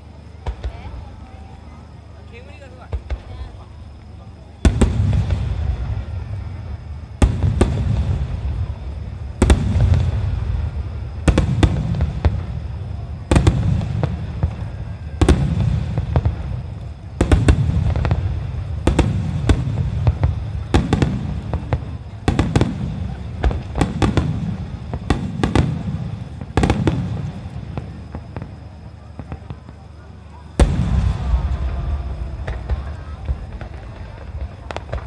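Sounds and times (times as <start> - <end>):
firework crackles: 0.0 - 35.0.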